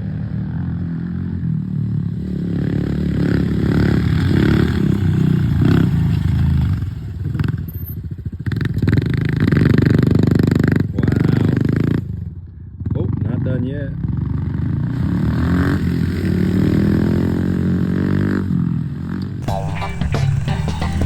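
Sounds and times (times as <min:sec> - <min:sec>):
small motorcycle engine revving: 0:00.0 - 0:12.2, 0:14.3 - 0:21.0.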